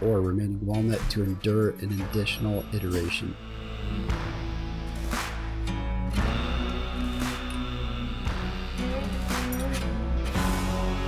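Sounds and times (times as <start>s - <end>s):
music with sustained low tones: 0.0s - 11.0s.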